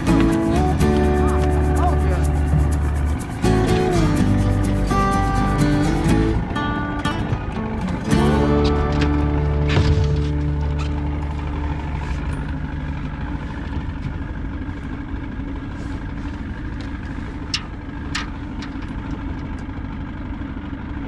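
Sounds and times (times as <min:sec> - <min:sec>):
boat motor idling: 0:00.0 - 0:21.0.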